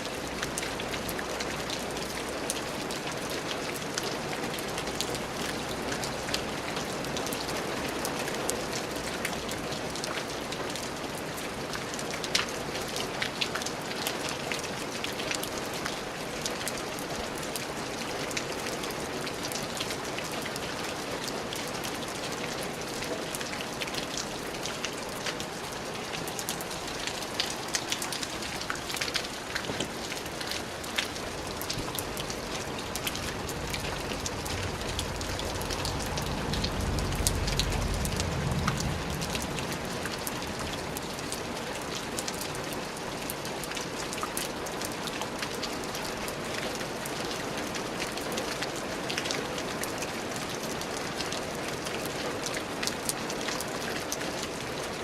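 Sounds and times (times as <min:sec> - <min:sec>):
raindrops pattering on hard surface: 0:00.0 - 0:55.0.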